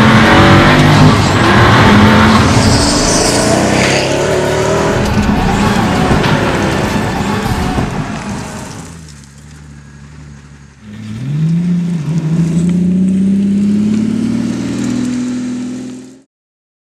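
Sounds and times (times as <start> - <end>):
car engine accelerating hard: 0.0 - 16.3.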